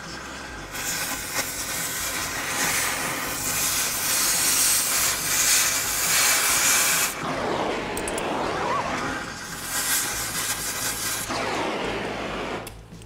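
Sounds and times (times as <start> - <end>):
cutting torch hissing: 0.0 - 12.9.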